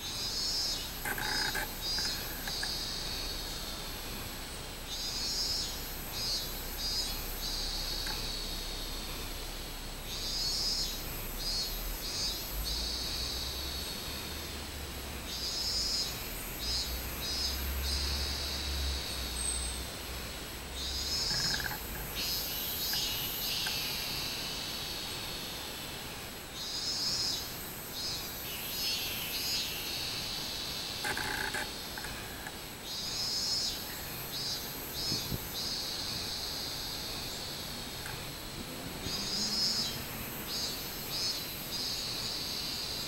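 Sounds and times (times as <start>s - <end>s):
cicada singing: 0.0s - 43.0s.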